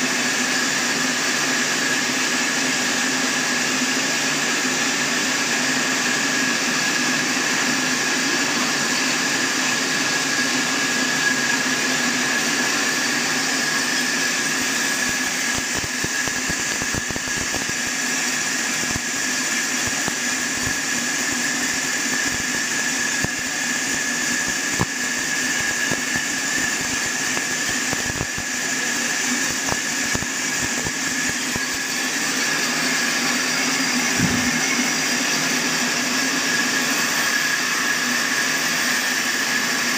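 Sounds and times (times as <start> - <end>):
band sawmill high whine: 0.0 - 39.9.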